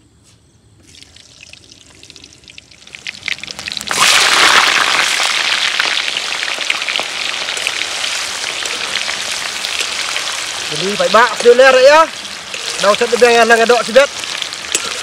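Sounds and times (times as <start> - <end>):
food sizzling in hot oil: 0.9 - 15.0.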